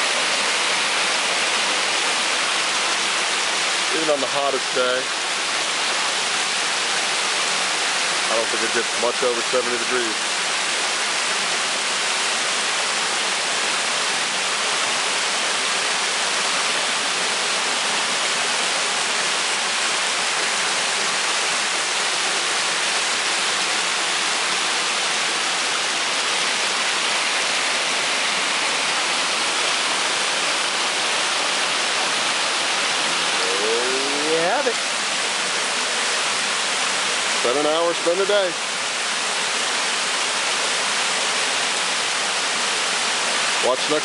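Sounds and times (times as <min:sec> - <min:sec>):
waterfall pouring: 0:00.0 - 0:44.0.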